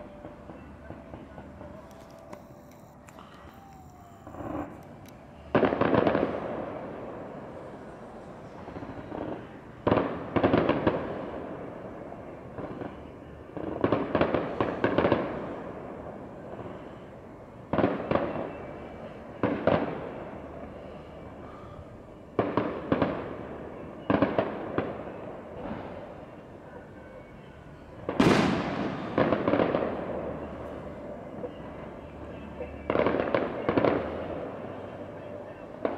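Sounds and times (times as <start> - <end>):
fireworks bursting with echo: 0.0 - 21.6, 22.2 - 26.7, 27.4 - 35.9.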